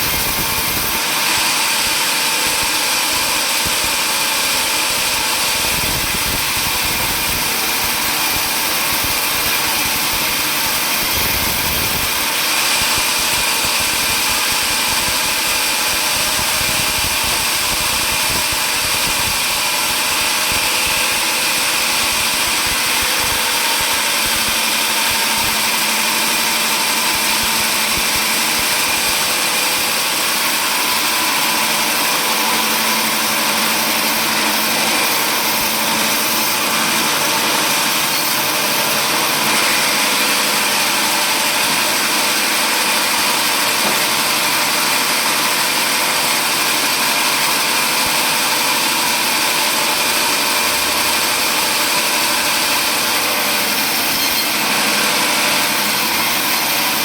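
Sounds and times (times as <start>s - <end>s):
sawmill saw running with whine: 0.0s - 57.0s.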